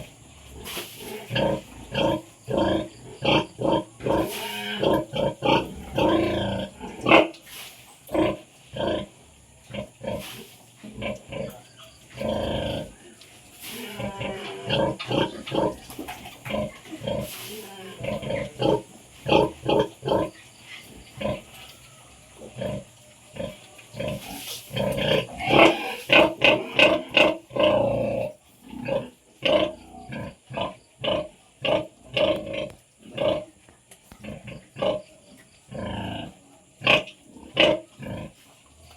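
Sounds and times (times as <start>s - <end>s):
pigs grunting: 0.0s - 7.5s, 8.1s - 33.6s, 34.2s - 38.9s.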